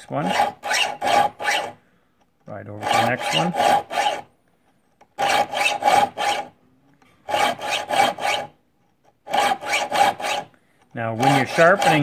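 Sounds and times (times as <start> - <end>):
file rasping saw teeth: 0.0 - 1.8, 2.5 - 4.3, 5.0 - 6.6, 7.2 - 12.0.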